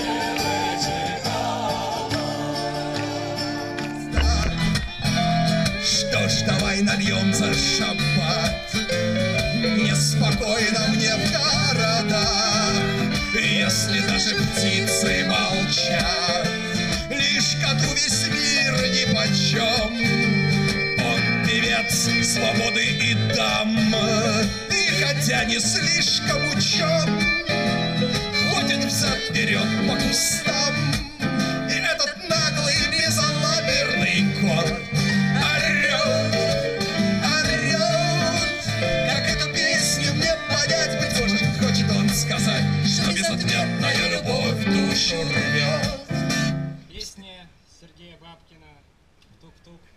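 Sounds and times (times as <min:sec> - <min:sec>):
person singing: 0:00.0 - 0:20.3, 0:21.0 - 0:27.5, 0:28.4 - 0:46.3
strummed acoustic guitar: 0:00.0 - 0:46.8.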